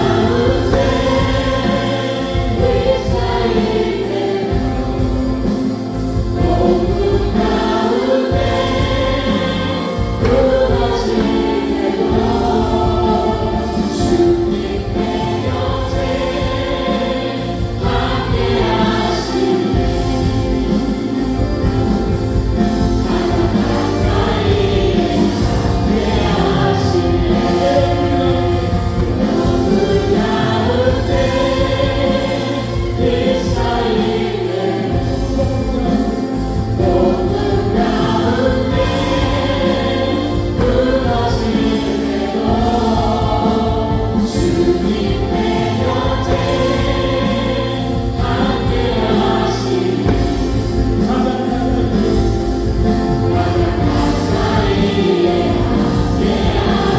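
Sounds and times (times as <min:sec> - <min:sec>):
vocalists singing worship song: 0:00.0 - 0:56.9
worship band playing: 0:00.0 - 0:56.9.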